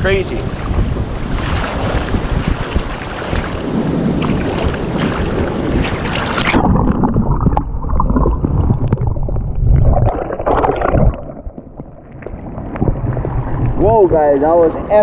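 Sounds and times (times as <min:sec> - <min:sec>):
wind on microphone: 0:00.0 - 0:15.0
seawater sloshing: 0:00.3 - 0:15.0
underwater knocks and bubbling: 0:00.6 - 0:14.3.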